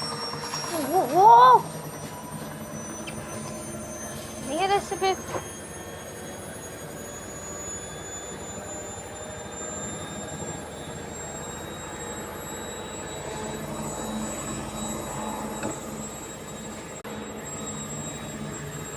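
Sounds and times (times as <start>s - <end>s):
washing machine spinning and rattling: 0.0s - 18.9s.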